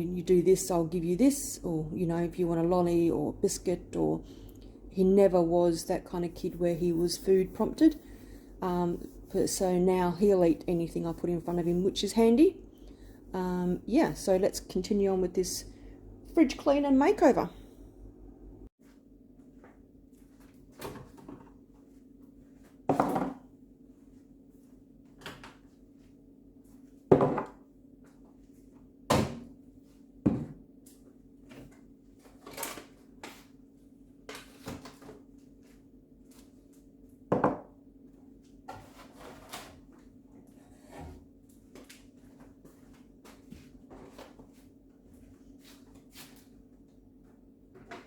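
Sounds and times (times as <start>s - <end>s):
fridge low hum: 0.0s - 48.0s.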